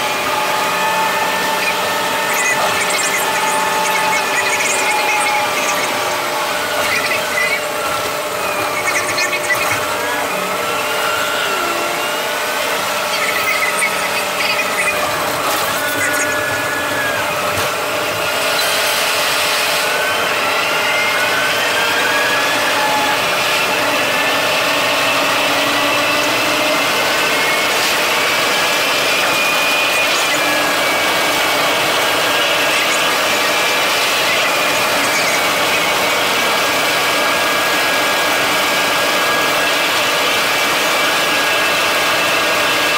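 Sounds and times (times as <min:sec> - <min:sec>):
bus running noise: 0:00.0 - 0:42.9
whine gliding in pitch: 0:00.0 - 0:42.9.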